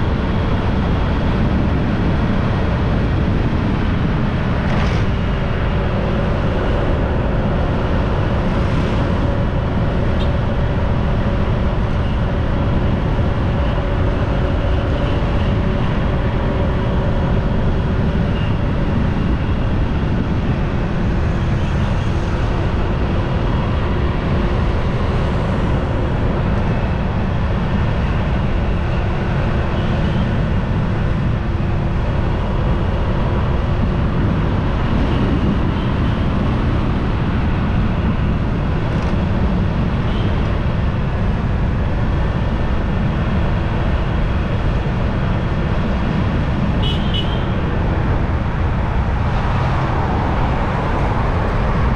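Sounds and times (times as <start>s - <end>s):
wind rushing on microphone: 0.0s - 51.9s.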